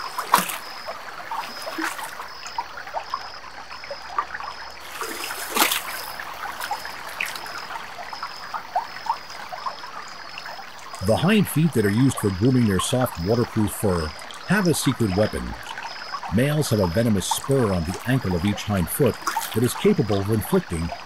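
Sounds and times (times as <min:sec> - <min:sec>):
stream water trickling: 0:00.0 - 0:21.0
water splashes: 0:00.0 - 0:21.0.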